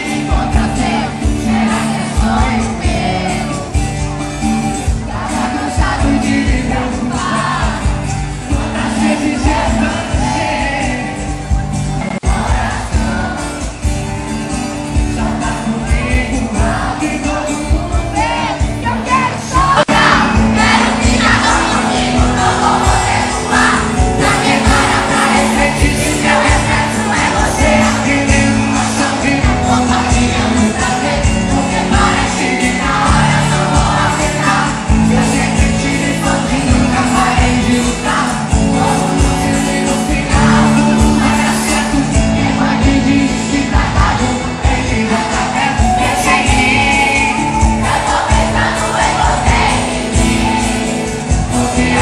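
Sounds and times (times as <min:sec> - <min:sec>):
crowd singing along: 0:00.0 - 0:52.0
live pop band playing: 0:00.0 - 0:52.0.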